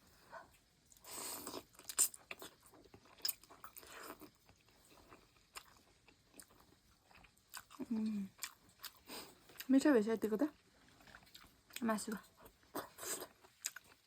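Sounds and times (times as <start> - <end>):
person chewing noodle soup: 0.2 - 9.7, 10.6 - 14.0.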